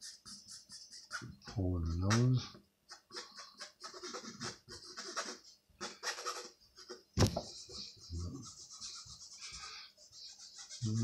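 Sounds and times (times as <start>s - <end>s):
pencil scratching on linen: 0.0s - 11.0s.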